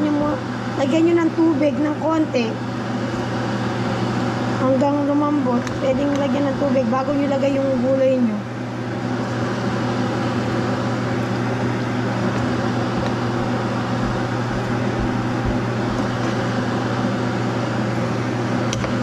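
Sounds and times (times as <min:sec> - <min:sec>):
fan humming: 0:00.0 - 0:19.0.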